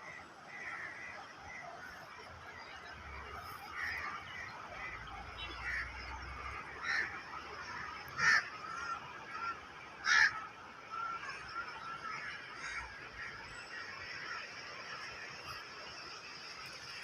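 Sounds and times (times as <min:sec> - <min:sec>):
birds chattering: 0:00.0 - 0:17.0
birds honking: 0:00.0 - 0:17.0.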